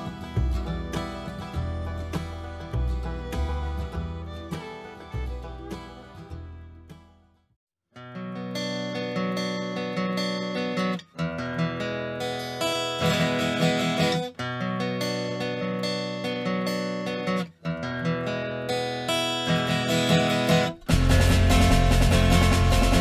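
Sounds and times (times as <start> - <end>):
strummed acoustic guitar: 0.0 - 7.4, 8.0 - 23.0.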